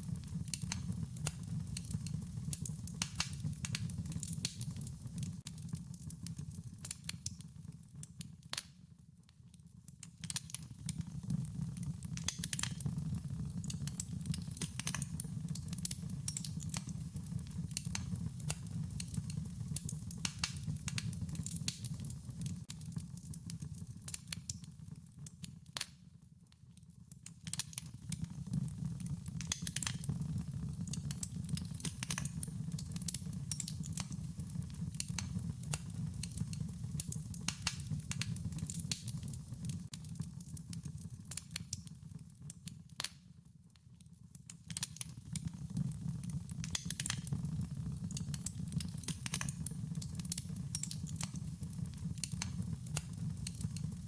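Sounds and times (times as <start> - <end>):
wood fire crackling: 0.0 - 8.8, 9.8 - 26.0, 27.0 - 43.3, 44.5 - 54.0.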